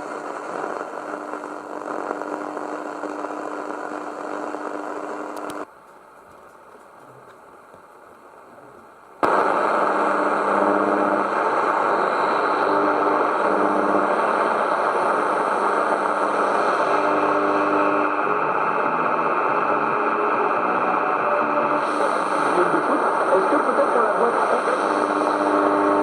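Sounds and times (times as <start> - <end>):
radio static: 0.0 - 5.7, 6.4 - 26.0
faint radio station tones: 0.0 - 26.0.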